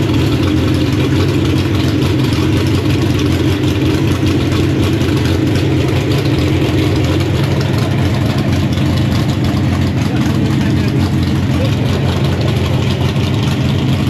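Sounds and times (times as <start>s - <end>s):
loud racing engine idling: 0.0s - 14.0s.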